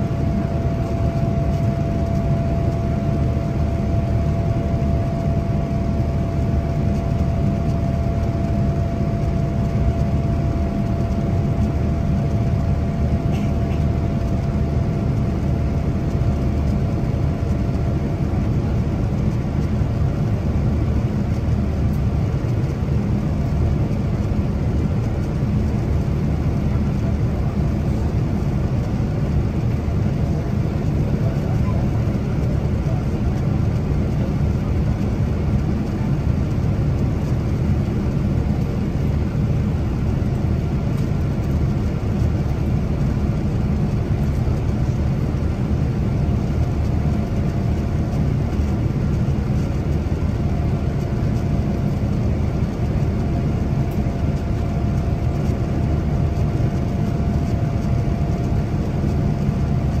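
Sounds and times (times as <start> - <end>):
airliner cabin engine rumble: 0.0 - 60.0.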